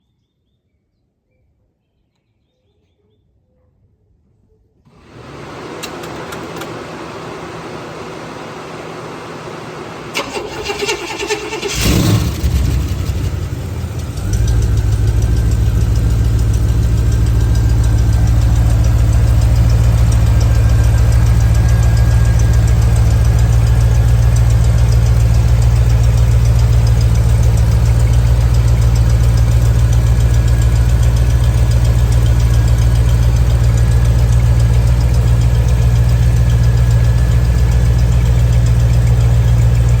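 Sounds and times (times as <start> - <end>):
engine starting and idling: 4.9 - 40.0.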